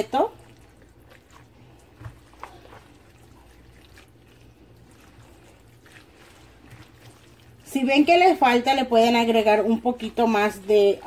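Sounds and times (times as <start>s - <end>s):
wet squelching of spatula stirring: 0.0s - 11.0s.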